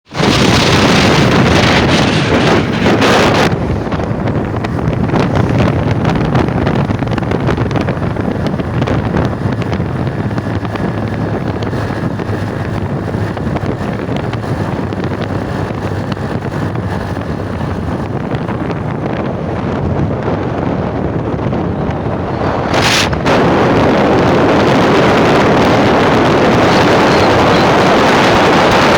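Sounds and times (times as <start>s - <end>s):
vehicle engine and road noise: 0.0s - 28.9s
wind on microphone: 0.0s - 28.9s.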